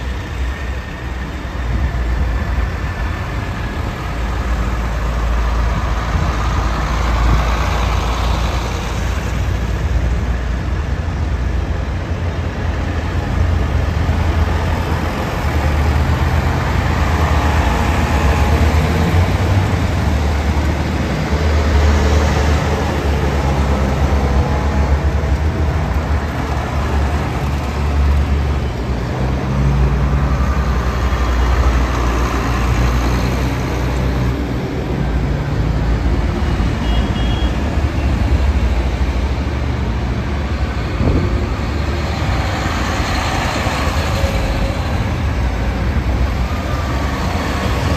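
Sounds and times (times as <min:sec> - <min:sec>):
tractor engines rumbling past: 0:00.0 - 0:47.9.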